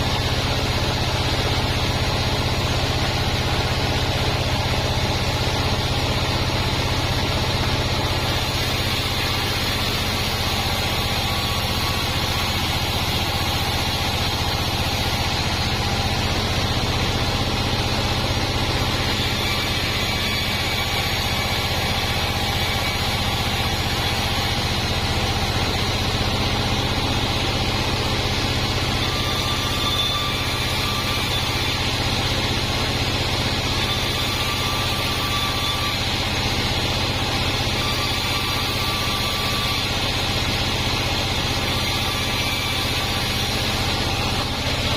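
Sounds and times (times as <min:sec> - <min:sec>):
sawmill machine drone: 0:00.0 - 0:44.9.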